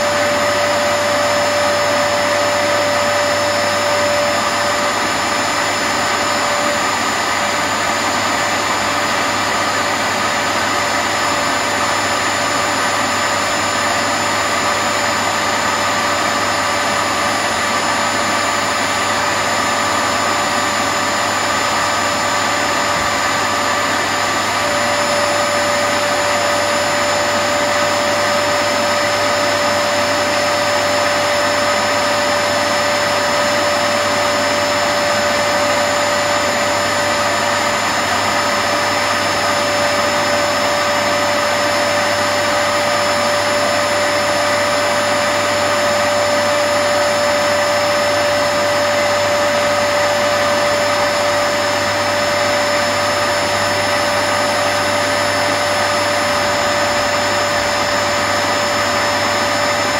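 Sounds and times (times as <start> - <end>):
carpet washer suction motor running: 0.0 - 59.9.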